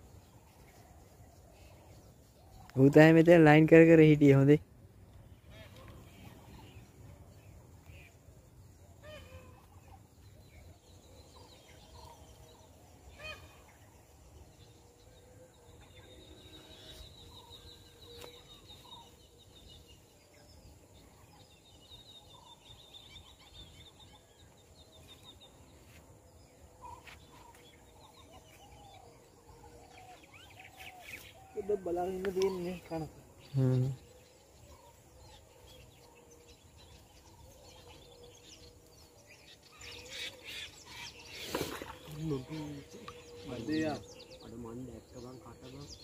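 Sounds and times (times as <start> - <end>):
distant birds trilling and chirping: 0.0 - 46.0.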